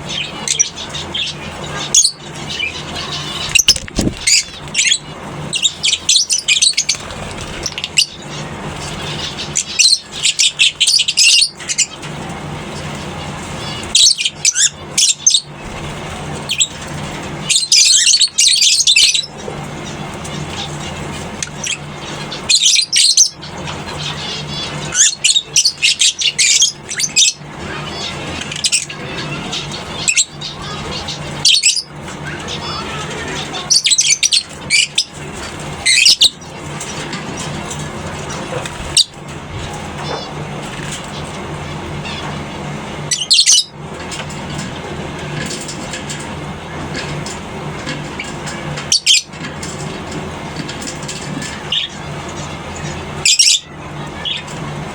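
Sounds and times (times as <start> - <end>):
lovebirds chattering and screeching: 0.0 - 54.9
steady low hum: 0.0 - 54.9.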